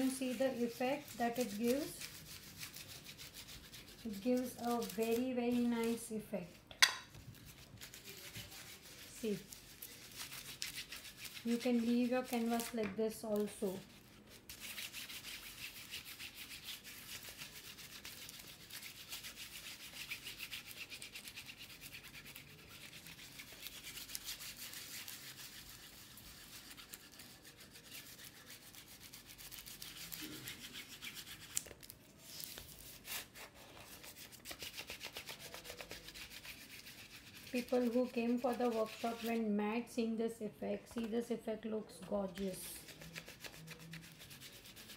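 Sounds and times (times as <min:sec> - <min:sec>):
ink pad rubbing on tissue paper: 0:00.0 - 0:06.2, 0:07.3 - 0:39.5, 0:42.3 - 0:44.9.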